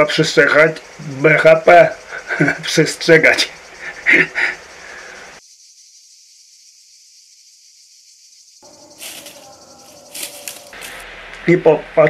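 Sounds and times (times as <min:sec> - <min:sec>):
high-pitched hiss: 0:00.0 - 0:11.8.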